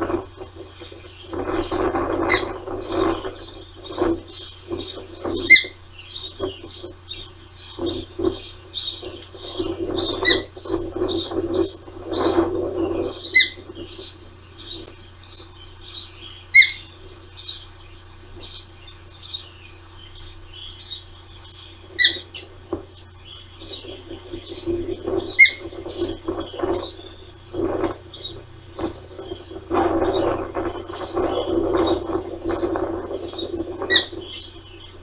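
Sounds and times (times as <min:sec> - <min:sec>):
low rumbling noise: 0:00.0 - 0:35.0
ospreys chirping: 0:00.0 - 0:35.0.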